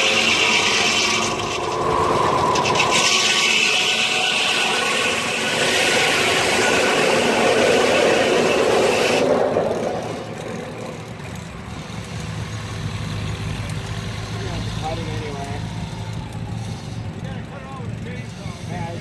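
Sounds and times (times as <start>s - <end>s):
saw and drive running: 0.0s - 19.0s
saw cutting through log: 0.0s - 19.0s.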